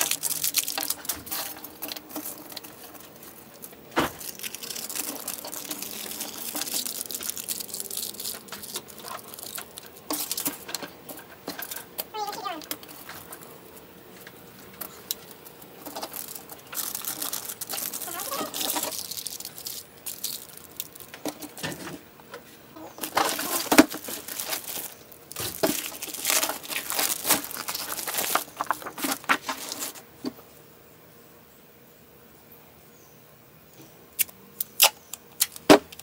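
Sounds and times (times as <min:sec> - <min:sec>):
aluminium foil crinkling: 0:00.0 - 0:30.1, 0:34.2 - 0:36.0.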